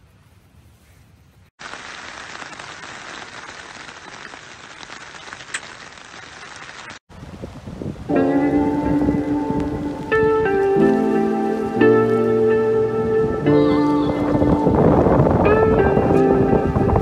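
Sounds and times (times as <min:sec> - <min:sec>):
steady rain hiss and pattering: 0:01.6 - 0:17.0.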